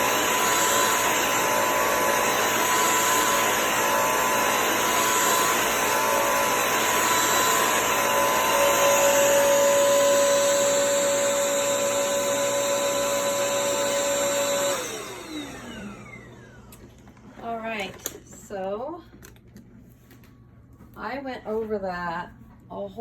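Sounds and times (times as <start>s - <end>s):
vacuum motor whine: 0.0s - 18.7s.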